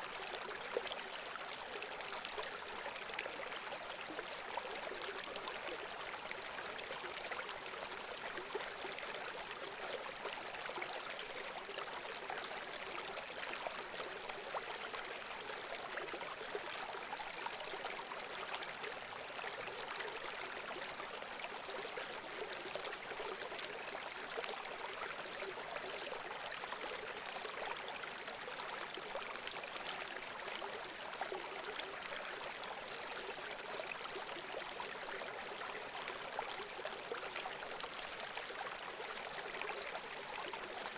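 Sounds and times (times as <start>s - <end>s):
running water babbling: 0.0s - 40.9s.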